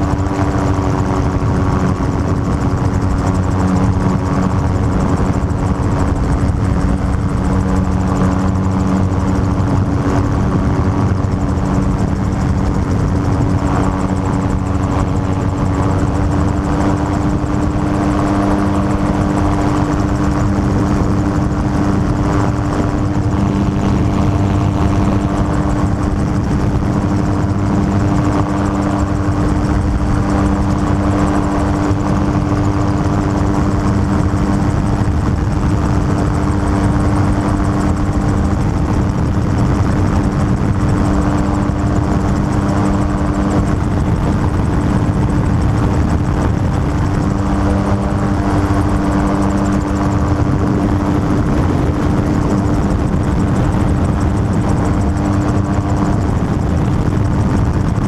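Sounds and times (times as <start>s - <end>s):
dense rush of noise: 0.0s - 58.0s
engine and propeller hum: 0.0s - 58.0s.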